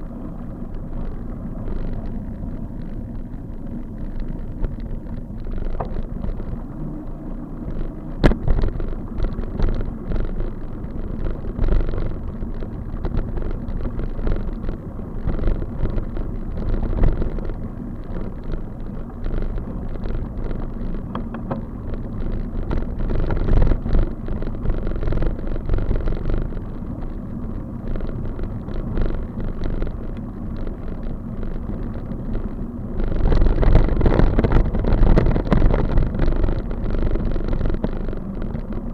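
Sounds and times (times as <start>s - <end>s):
wind and road noise rumble: 0.0s - 38.9s.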